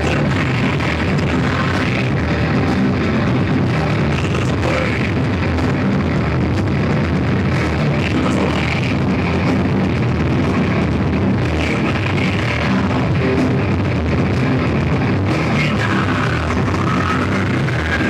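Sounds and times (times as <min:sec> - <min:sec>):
distorted electric guitars: 0:00.0 - 0:18.0
drum kit: 0:00.0 - 0:18.0.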